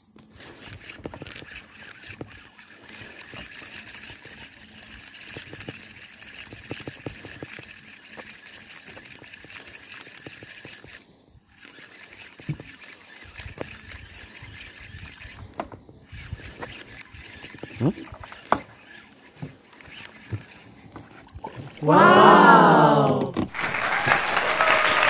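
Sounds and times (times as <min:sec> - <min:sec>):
fishing reel whirring: 0:00.0 - 0:21.9.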